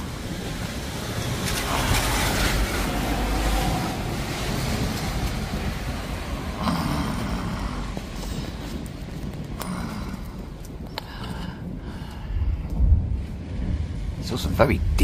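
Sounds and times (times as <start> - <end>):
distant thunder rumbling: 0.0 - 15.0.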